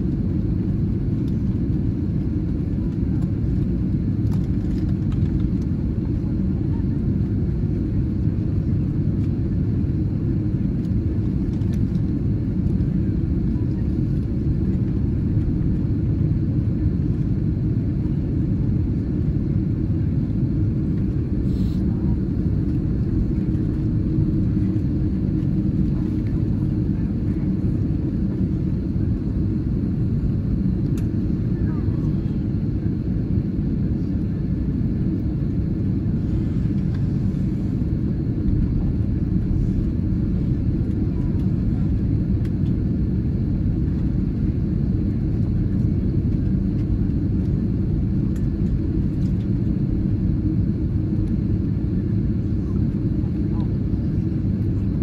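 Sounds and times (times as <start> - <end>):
airliner cabin rumble while taxiing: 0.0 - 55.0.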